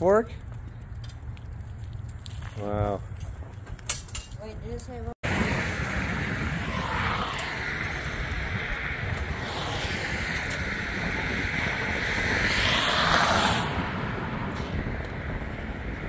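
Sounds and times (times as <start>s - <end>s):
road traffic passing: 0.0s - 16.0s
wind buffeting microphone: 3.0s - 16.0s.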